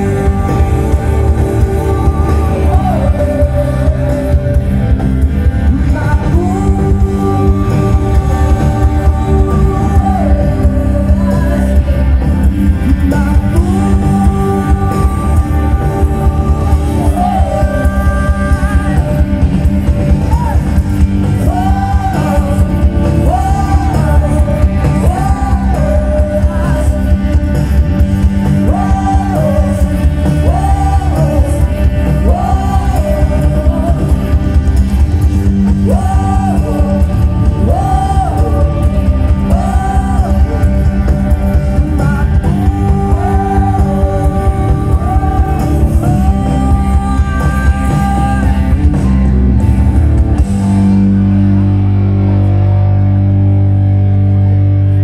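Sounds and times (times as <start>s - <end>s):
man singing: 0.0s - 49.3s
heavy booming bass: 0.0s - 55.0s
live rock band: 0.0s - 55.0s.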